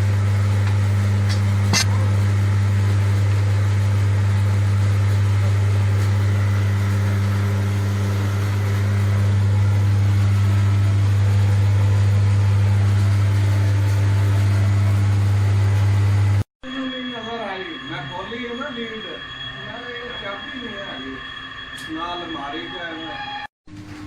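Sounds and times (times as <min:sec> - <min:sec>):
machinery electrical hum: 0:00.0 - 0:24.0.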